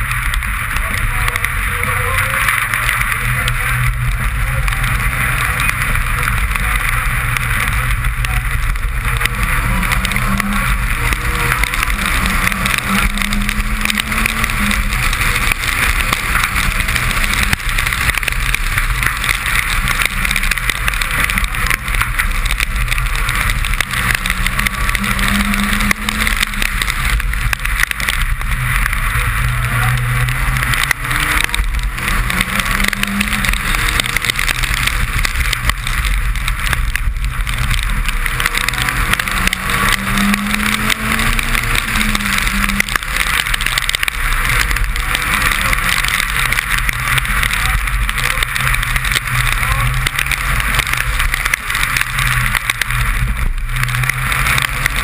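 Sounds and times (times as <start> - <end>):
rally car engine running hard: 0.0 - 55.0.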